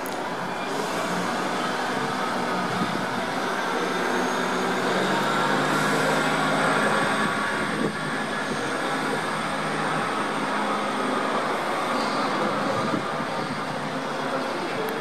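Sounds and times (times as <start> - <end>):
high wheel squeal: 0.0 - 14.9
train wagons rumbling on rails: 0.0 - 15.0.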